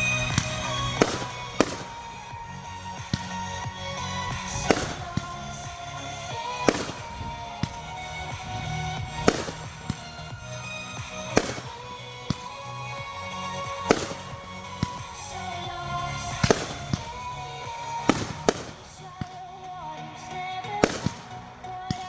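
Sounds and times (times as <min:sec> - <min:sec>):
fireworks bangs and pops: 0:00.0 - 0:19.7, 0:20.6 - 0:22.0
music: 0:00.0 - 0:22.0.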